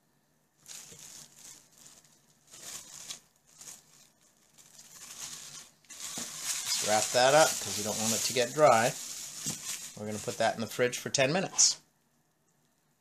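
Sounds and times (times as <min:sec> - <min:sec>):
plastic wrap crinkling: 0:00.5 - 0:11.7.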